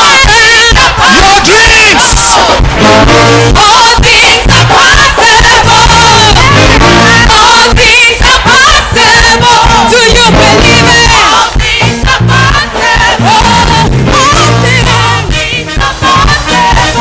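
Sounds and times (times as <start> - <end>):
backing voices singing: 0.0 - 17.0
full band playing: 0.0 - 17.0
woman singing lead: 0.0 - 17.0.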